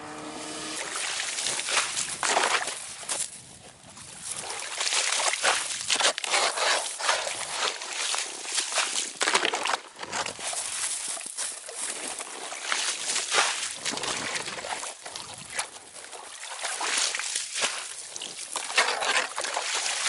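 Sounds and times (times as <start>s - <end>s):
ice slush and water sloshing: 0.1s - 20.0s.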